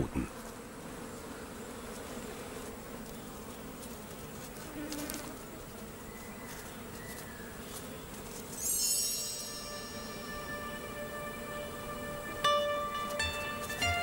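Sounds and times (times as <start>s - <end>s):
flying insects buzzing: 0.0s - 14.0s.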